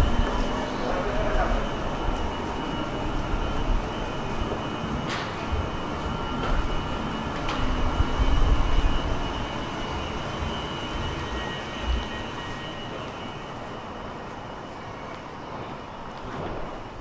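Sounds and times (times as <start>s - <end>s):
faint high whine: 0.0s - 17.0s
railway station rumble and hiss: 0.0s - 17.0s.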